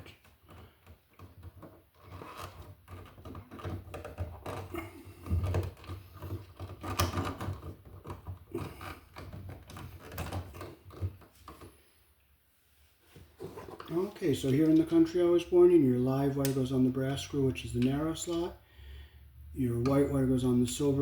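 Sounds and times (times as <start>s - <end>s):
hands handling wall receptacle wires: 0.0s - 12.0s, 13.0s - 18.6s.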